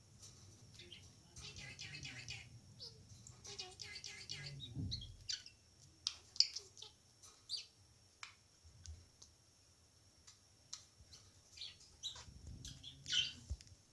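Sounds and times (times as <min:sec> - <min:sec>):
small bird chirping: 0:00.2 - 0:08.4, 0:10.3 - 0:13.6.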